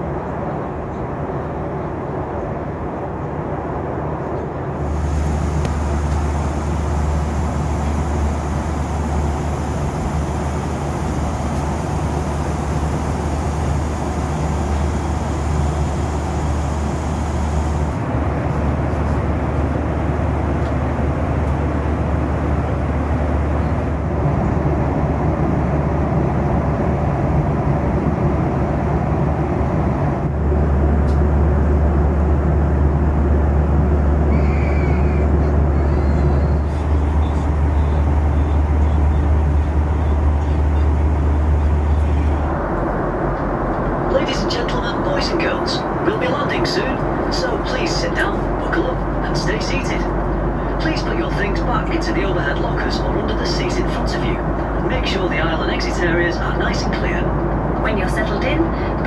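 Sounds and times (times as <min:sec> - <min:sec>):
air rushing along fuselage: 0:04.6 - 0:34.3, 0:35.0 - 0:59.0
aircraft engine drone: 0:04.7 - 0:34.3, 0:35.1 - 0:56.1.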